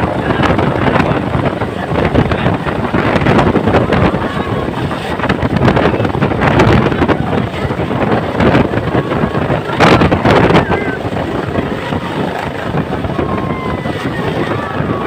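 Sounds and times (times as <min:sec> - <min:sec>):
wind buffeting microphone: 0:00.0 - 0:15.0
helicopter engine and rotor: 0:02.7 - 0:15.0.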